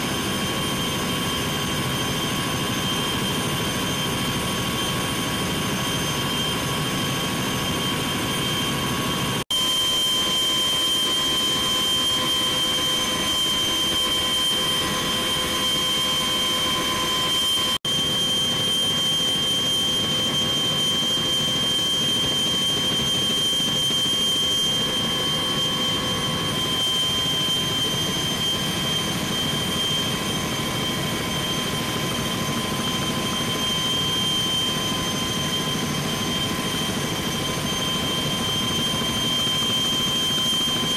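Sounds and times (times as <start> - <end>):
helicopter rotor and engine noise: 0.0 - 40.9
high turbine whine: 0.0 - 40.9.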